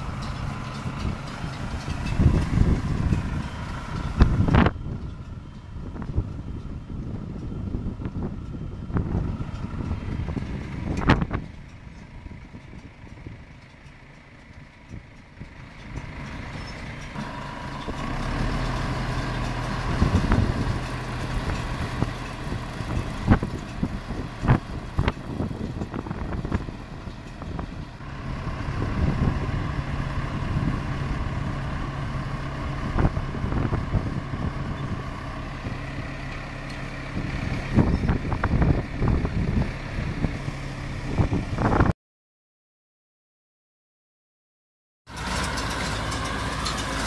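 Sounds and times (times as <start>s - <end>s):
tractor engine running: 0.0s - 41.9s, 45.1s - 47.0s.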